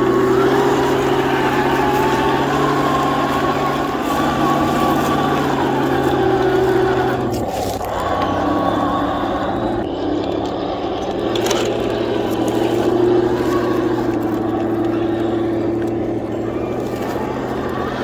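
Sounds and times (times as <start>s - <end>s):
tracks rustling through leaves: 0.0s - 9.8s, 11.1s - 18.0s
toy tank motor hum and whir: 0.0s - 18.0s.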